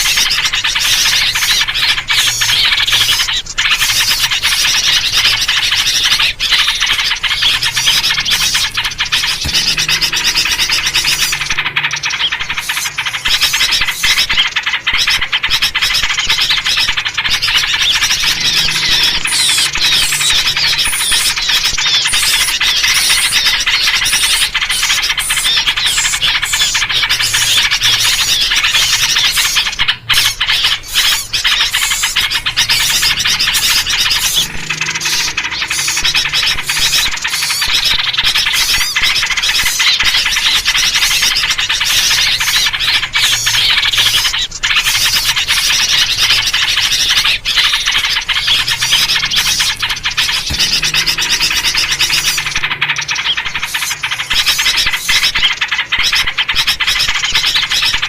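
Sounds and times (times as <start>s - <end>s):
many small birds chattering: 0.0s - 58.0s.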